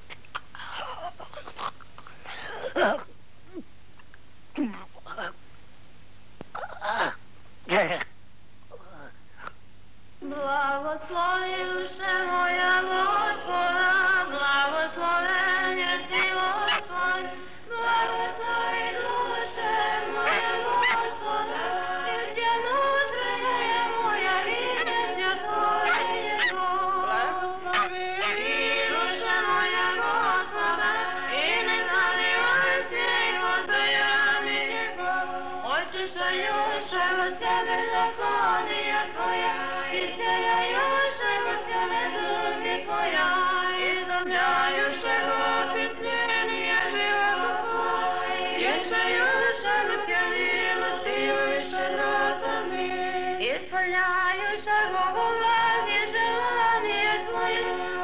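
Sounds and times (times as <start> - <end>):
choir singing in harmony: 10.2 - 53.5, 54.2 - 58.0.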